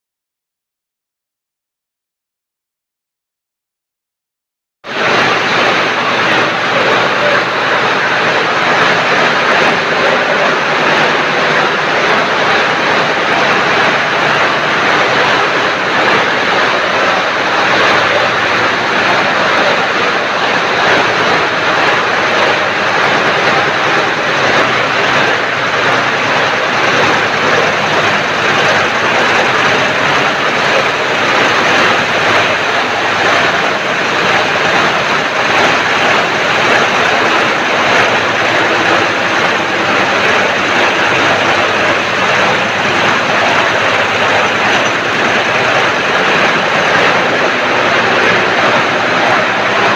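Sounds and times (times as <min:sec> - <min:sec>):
embroidery machines running: 0:04.9 - 0:49.9.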